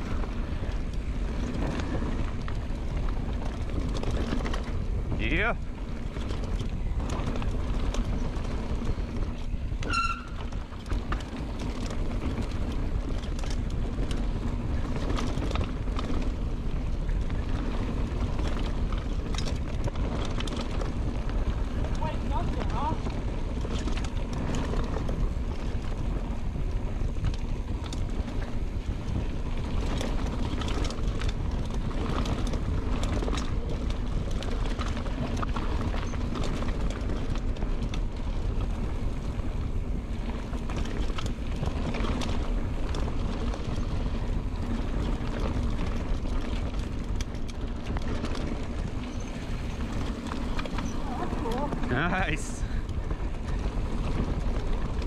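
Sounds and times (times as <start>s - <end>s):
bike clicks and rattles: 0.0s - 55.0s
bike tyres rolling on dirt: 0.0s - 55.0s
wind buffeting microphone: 0.0s - 55.0s.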